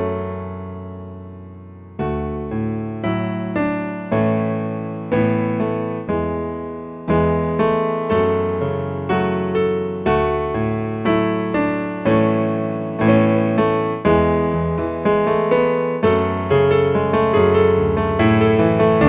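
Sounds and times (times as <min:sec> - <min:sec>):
piano chords and notes: 0:00.0 - 0:19.0.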